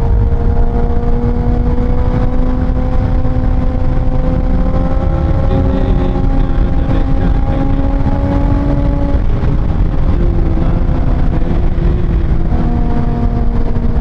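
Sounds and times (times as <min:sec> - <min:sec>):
motorcycle engine cruising: 0:00.0 - 0:14.0
wind rumble on microphone: 0:00.0 - 0:14.0.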